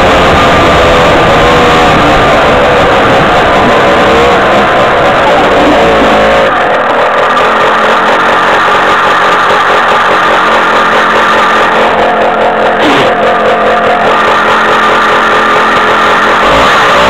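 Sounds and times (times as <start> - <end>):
buggy engine running loudly: 0.0 - 17.0.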